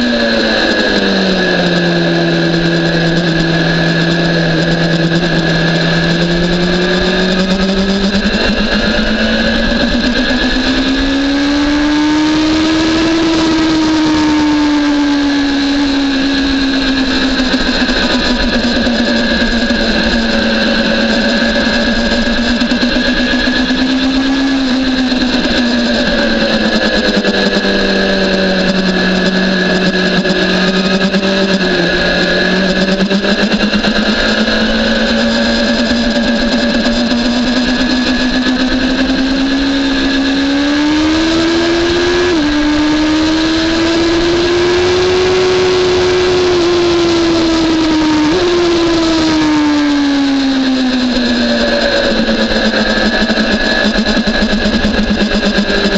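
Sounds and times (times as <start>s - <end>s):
motorcycle engine at speed: 0.0s - 55.9s.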